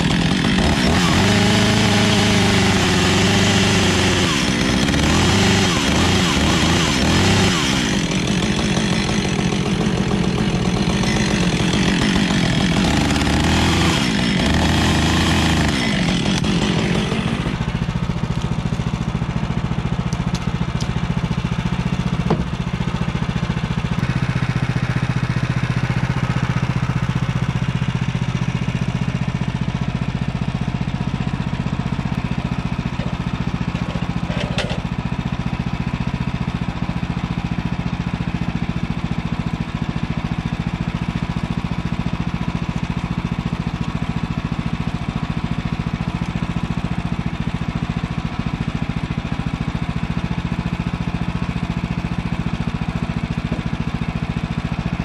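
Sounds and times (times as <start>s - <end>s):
small gasoline engine idling: 0.0s - 55.0s.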